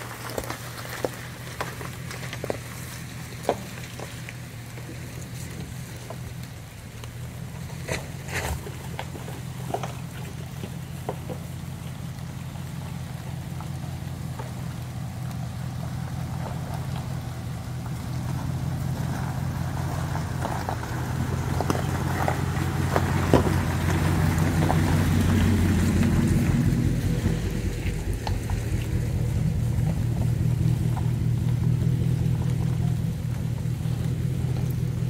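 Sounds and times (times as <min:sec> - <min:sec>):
pickup truck engine running: 0:00.0 - 0:35.0
stones crunching under tyres: 0:00.0 - 0:35.0.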